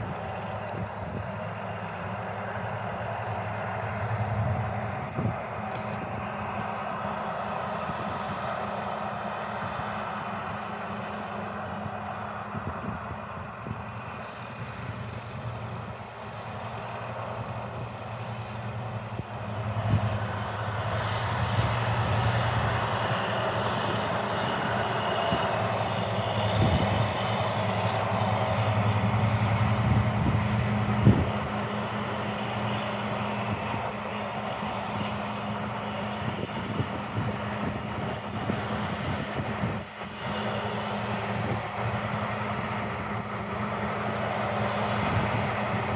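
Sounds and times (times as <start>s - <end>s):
vehicle engine humming: 0.0s - 45.9s.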